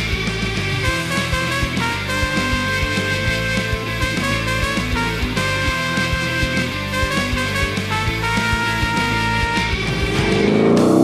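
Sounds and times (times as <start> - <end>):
background music with steady beat: 0.0 - 11.0
sustained horn-like notes: 0.8 - 11.0.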